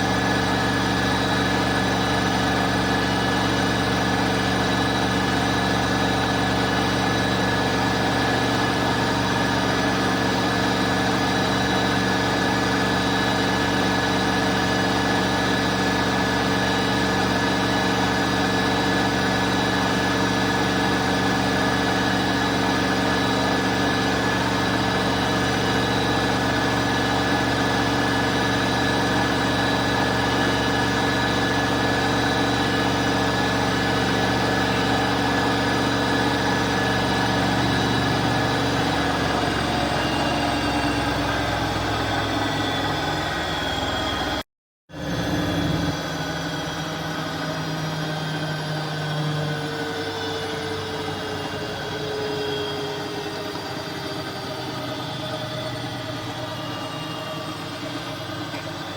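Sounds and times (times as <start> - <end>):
washing machine running: 0.0 - 58.9.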